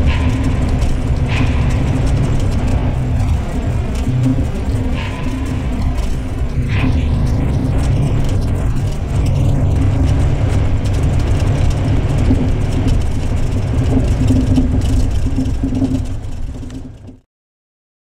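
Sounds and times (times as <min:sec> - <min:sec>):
diesel engine deep rumble: 0:00.0 - 0:17.2.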